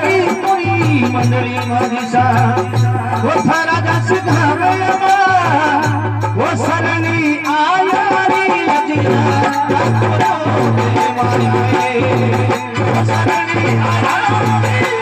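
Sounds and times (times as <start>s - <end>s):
man singing: 0.0s - 15.0s
rattling percussion: 0.0s - 15.0s.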